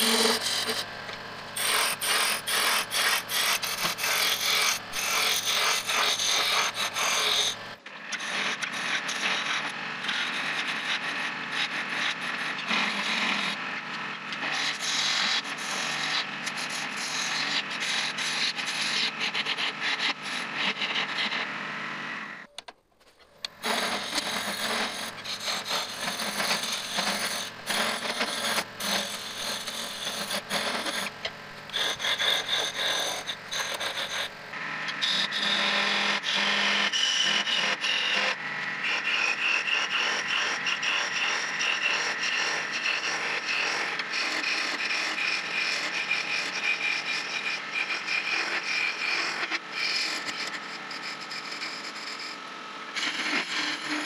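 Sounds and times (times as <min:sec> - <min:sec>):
gouge scraping spinning wood: 0:00.0 - 0:21.7, 0:23.3 - 0:54.0.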